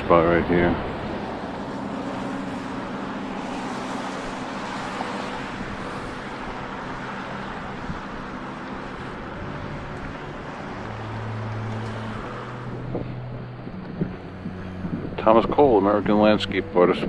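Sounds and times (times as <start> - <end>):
low engine hum: 0.0 - 17.0
road traffic rushing: 0.0 - 17.0
wind: 0.0 - 17.0.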